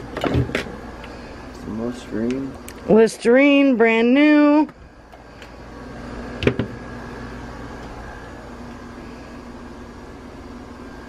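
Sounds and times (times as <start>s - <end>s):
faint high whine: 0.0s - 11.0s
steady background hum: 0.0s - 11.0s.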